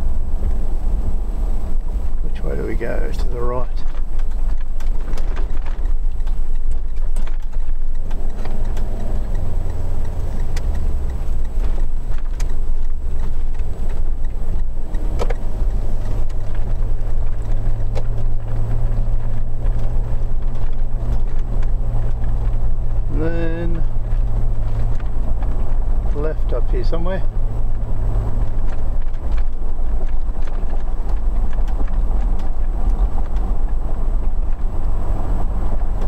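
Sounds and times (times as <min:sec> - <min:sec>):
car engine hum: 0:00.0 - 0:36.0
road rumble: 0:00.0 - 0:36.0.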